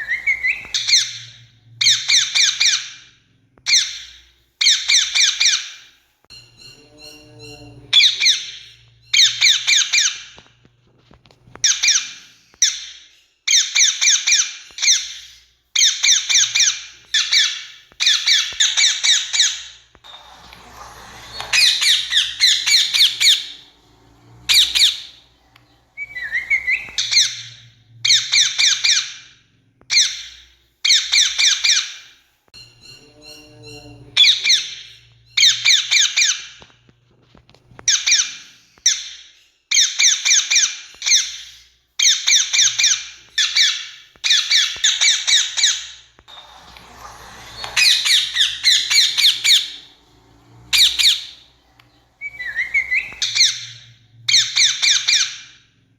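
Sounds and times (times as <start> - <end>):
parakeet screeching: 0.0 - 3.1, 6.5 - 10.4, 13.5 - 32.1, 32.7 - 36.6, 37.8 - 55.6.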